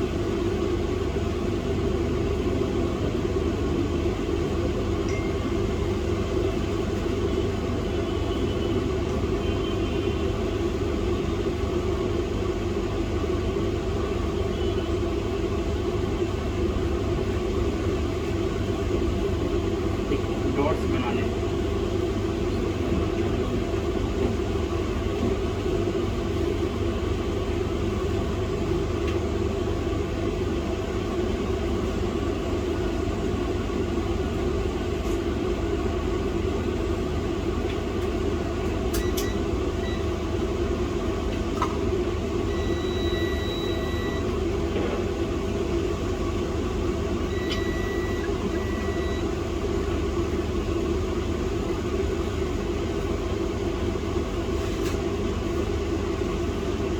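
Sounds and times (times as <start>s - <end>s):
fan humming and rumbling: 0.0s - 56.9s.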